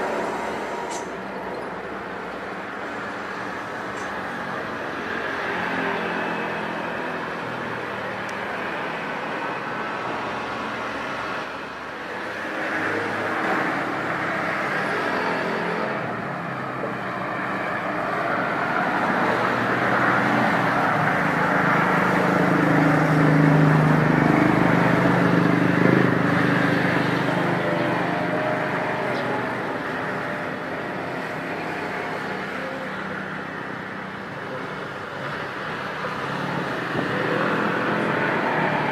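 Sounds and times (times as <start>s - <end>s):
jet airliner engines roaring: 0.0s - 38.9s.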